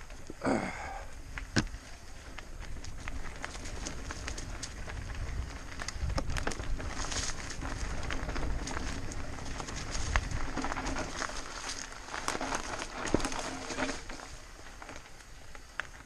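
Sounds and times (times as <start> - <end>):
wind rumbling on microphone: 0.0 - 15.8
tyres crunching over leaves: 0.0 - 16.0
bike rattling and clicking: 1.1 - 16.0.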